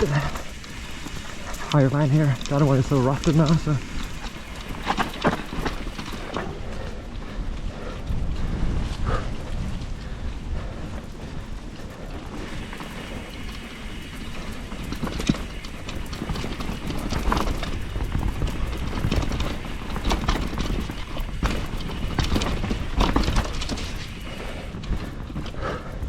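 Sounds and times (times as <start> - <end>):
bike frame knocking and rattling: 0.0 - 26.0
tyres rumbling over dirt: 0.0 - 26.0.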